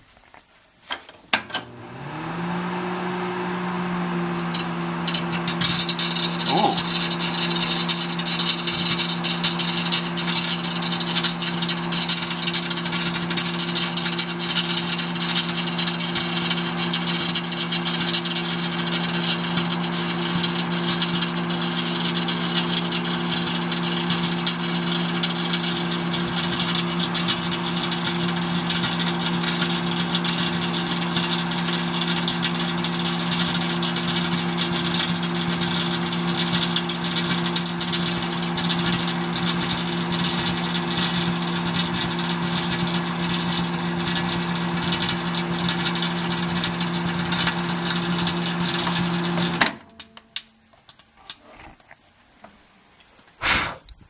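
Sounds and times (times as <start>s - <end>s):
microwave oven humming: 1.4s - 50.5s.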